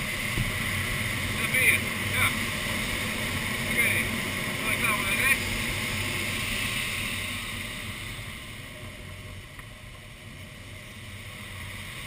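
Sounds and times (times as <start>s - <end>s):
air rushing over cockpit canopy: 0.0s - 12.0s.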